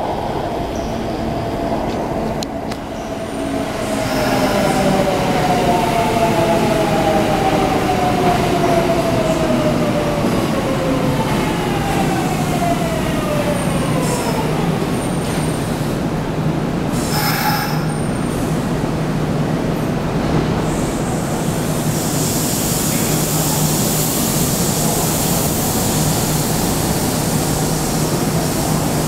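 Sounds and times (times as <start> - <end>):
electric train rumble: 0.0 - 29.0.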